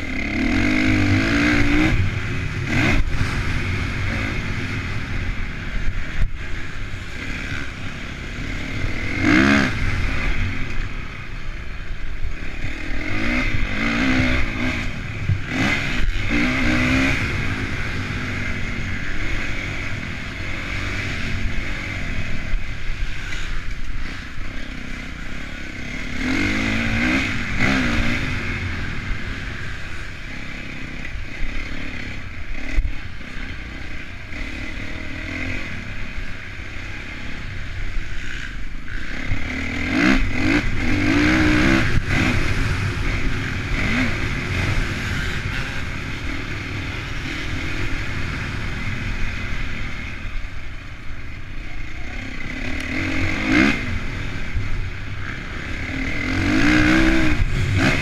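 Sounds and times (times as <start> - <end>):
motocross engine revving: 0.0 - 11.4, 12.1 - 58.0.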